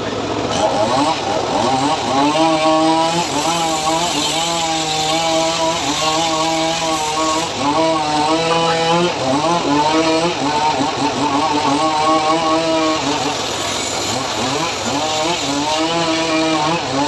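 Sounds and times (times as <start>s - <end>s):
engine-driven circular saw cutting wood: 0.0s - 17.0s.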